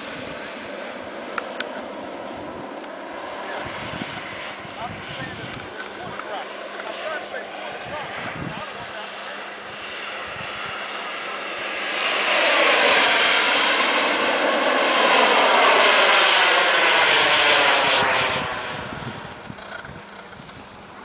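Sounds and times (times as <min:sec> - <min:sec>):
model jet turbine roar: 0:00.0 - 0:21.0.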